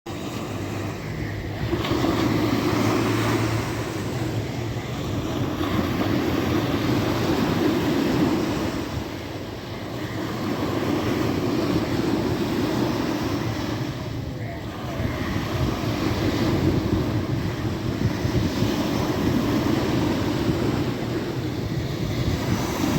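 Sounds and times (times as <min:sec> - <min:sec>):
sea waves washing in: 0:00.1 - 0:22.9.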